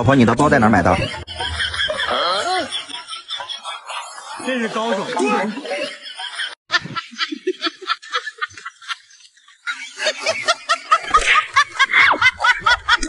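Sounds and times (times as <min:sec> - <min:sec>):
rapid high-pitched laughter: 0:00.9 - 0:13.0.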